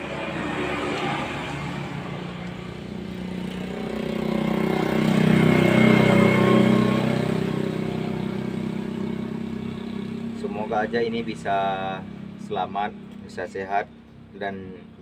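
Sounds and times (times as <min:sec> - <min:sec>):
vehicle engine passing by: 0:00.0 - 0:13.8.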